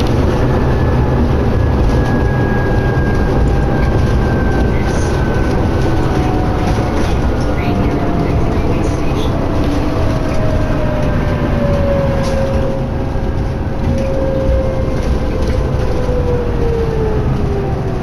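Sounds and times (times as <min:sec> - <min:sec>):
bus engine and road rumble: 0:00.0 - 0:18.0
drivetrain whine: 0:00.0 - 0:18.0.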